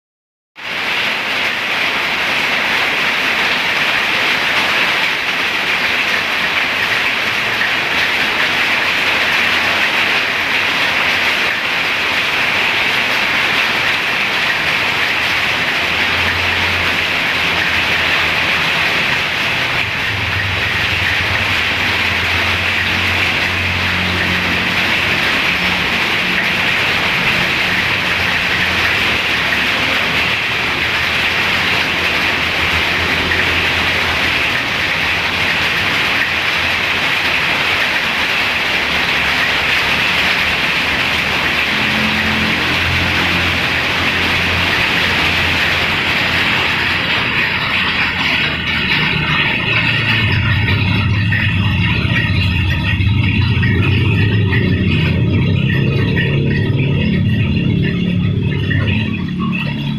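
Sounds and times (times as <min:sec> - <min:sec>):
heavy rain hissing: 0:00.6 - 0:59.9.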